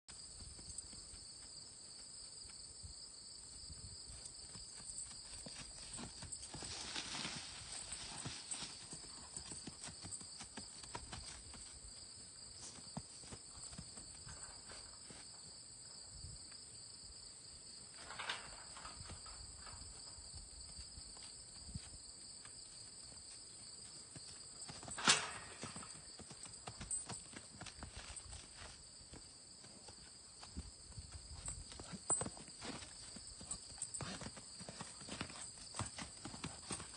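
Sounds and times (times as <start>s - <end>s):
hooves on grass and dirt: 0.1s - 36.9s.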